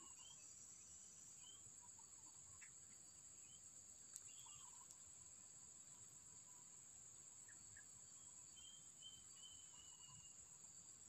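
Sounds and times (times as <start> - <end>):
faint bird chirps: 0.0 - 5.2, 5.8 - 10.6.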